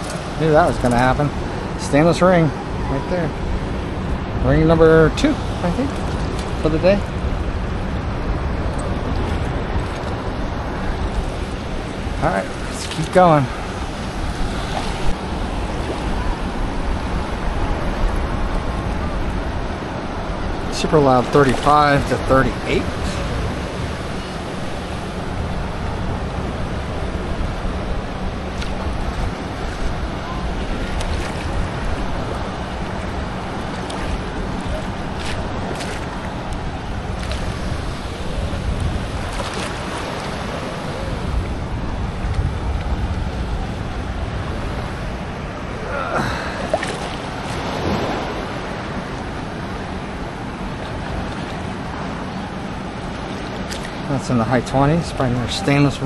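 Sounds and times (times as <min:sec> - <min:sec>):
ocean surf washing: 0:00.0 - 0:56.0
wind buffeting microphone: 0:00.0 - 0:56.0.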